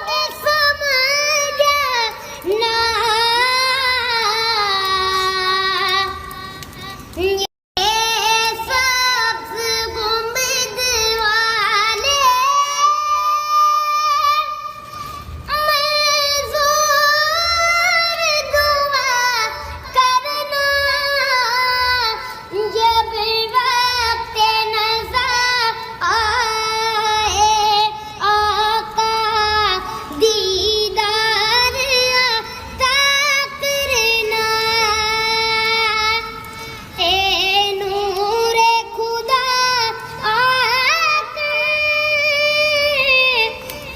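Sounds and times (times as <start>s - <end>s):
woman singing devotional song: 0.0s - 43.9s.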